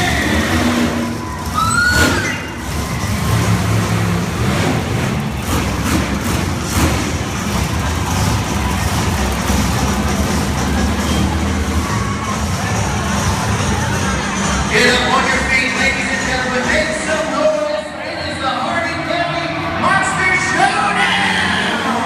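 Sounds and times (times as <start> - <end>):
large vehicle engines rumbling: 0.0 - 22.0.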